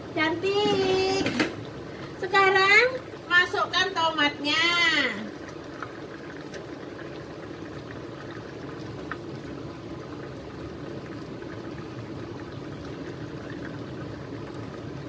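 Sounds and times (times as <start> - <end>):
broth boiling and bubbling: 0.0 - 15.0.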